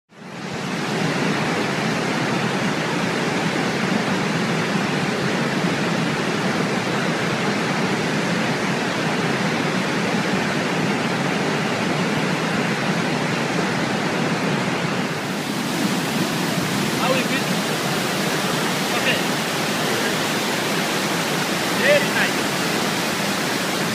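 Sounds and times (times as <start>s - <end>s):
waterfall rushing: 0.2s - 23.9s.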